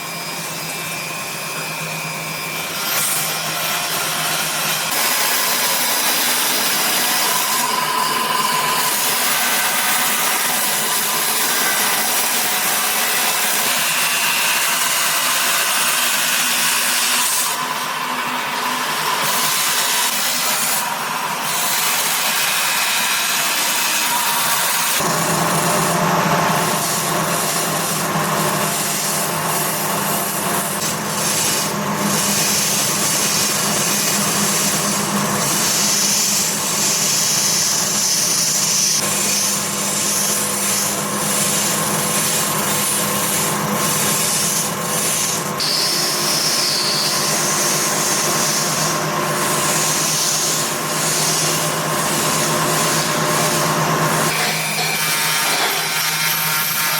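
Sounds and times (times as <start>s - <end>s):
machines grinding stone: 0.1s - 56.9s.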